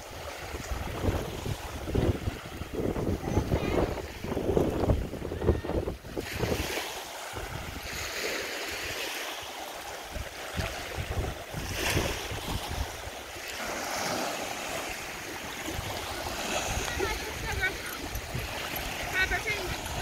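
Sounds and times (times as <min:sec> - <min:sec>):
wind buffeting microphone: 0:00.0 - 0:08.2, 0:10.0 - 0:20.0
small waves washing in: 0:00.0 - 0:20.0.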